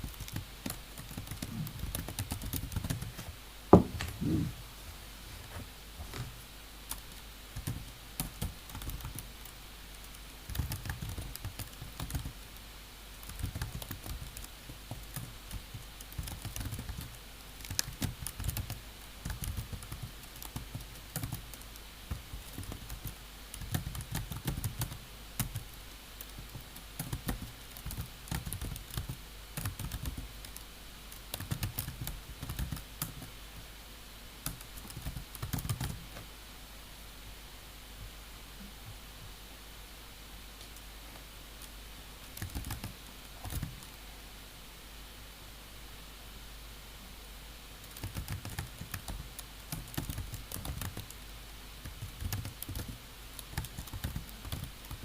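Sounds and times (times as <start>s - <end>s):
faint room hum: 0.0s - 55.0s.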